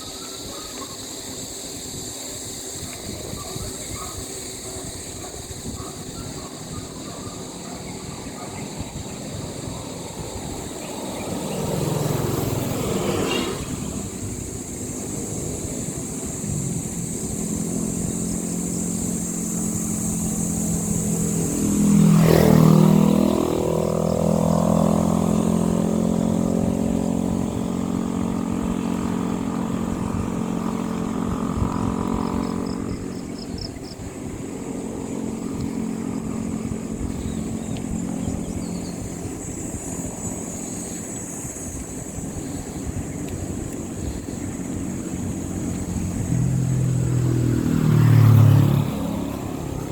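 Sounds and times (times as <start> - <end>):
vehicle engines humming: 0.0 - 49.9
vehicle passing close: 1.1 - 49.9.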